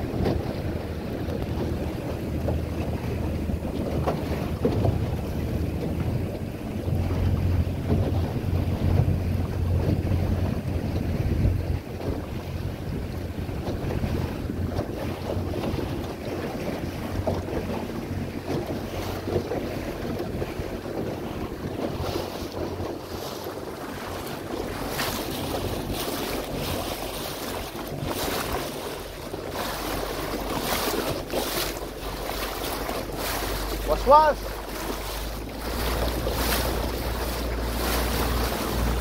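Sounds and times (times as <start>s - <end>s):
water splashing along boat: 0.0s - 39.0s
wind buffeting microphone: 0.0s - 39.0s.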